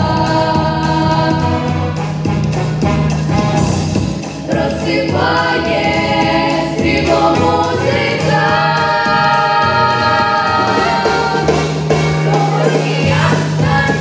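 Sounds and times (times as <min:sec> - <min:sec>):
instrumental accompaniment: 0:00.0 - 0:14.0
vocal ensemble singing: 0:00.0 - 0:14.0.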